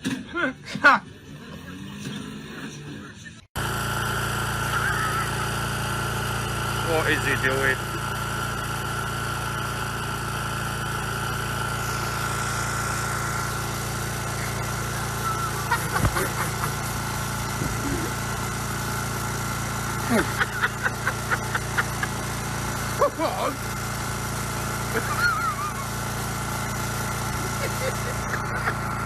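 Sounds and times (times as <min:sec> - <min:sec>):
engine idling: 0:03.6 - 0:29.0
steady whine: 0:03.6 - 0:29.0.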